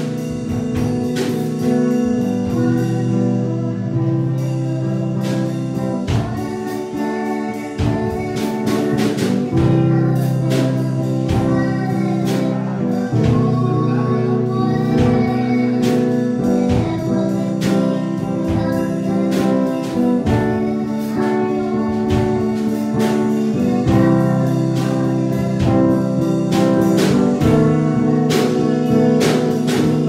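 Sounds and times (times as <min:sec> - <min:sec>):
instrumental worship music: 0:00.0 - 0:30.0.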